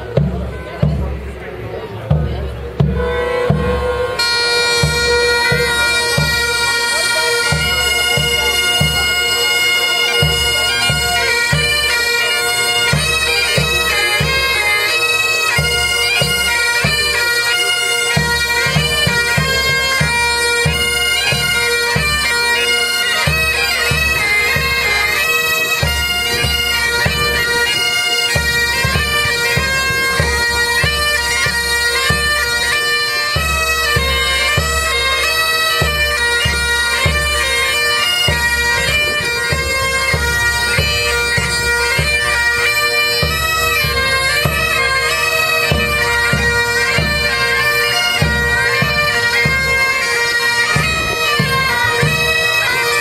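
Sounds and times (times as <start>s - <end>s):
bagpipes playing: 0.0s - 1.4s, 2.0s - 53.0s.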